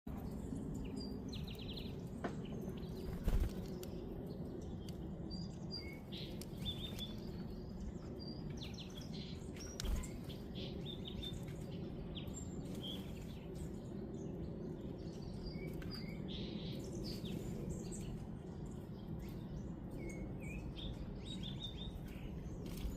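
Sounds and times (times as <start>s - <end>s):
small birds chirping: 0.1s - 22.9s
steady low rumble: 0.1s - 22.9s.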